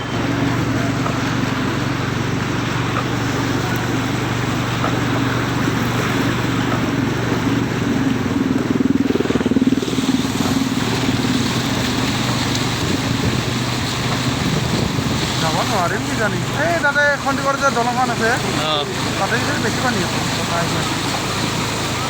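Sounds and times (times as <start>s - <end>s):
road and wind noise: 0.0s - 22.0s
vehicle engine running: 0.0s - 22.0s.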